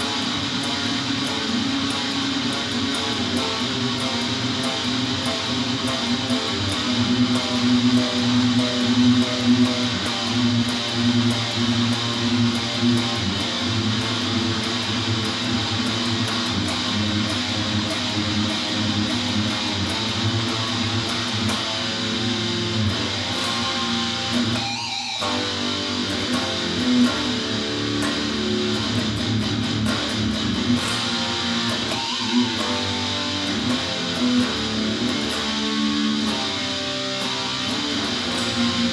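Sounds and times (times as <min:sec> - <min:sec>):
heavy guitar music: 0:00.0 - 0:38.9.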